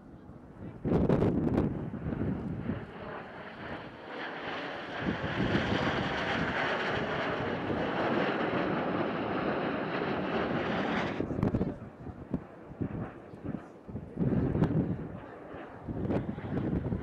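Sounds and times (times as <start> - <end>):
jet aircraft flying past: 0.5 - 17.0.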